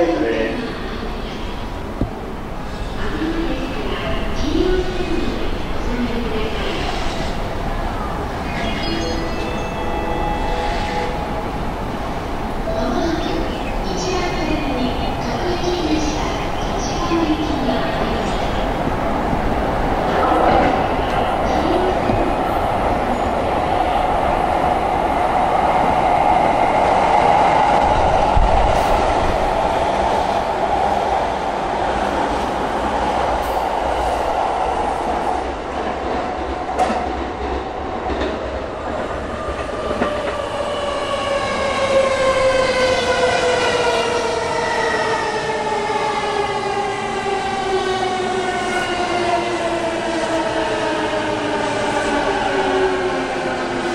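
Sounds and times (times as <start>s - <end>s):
train wheels rumbling on rail: 10.4s - 53.9s.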